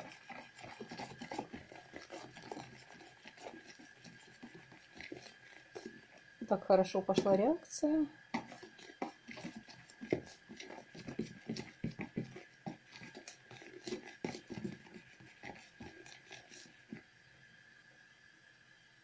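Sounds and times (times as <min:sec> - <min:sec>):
spoon stirring in plastic bowl: 0:00.0 - 0:17.0.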